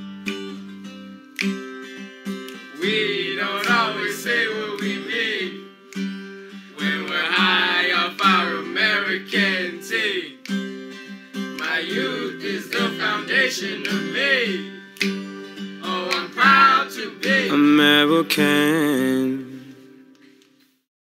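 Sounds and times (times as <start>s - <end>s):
song with acoustic guitar and singing: 0.0s - 20.8s.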